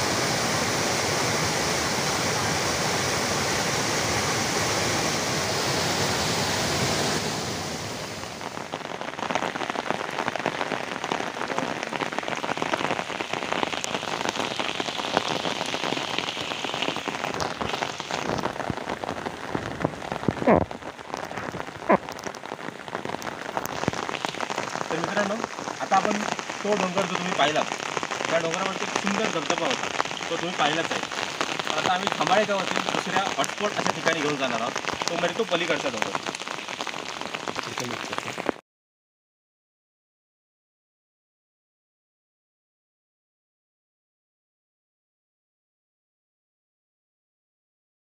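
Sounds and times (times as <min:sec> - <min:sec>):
waterfall rushing: 0:00.0 - 0:38.5
heavy rain on an umbrella: 0:00.0 - 0:38.6.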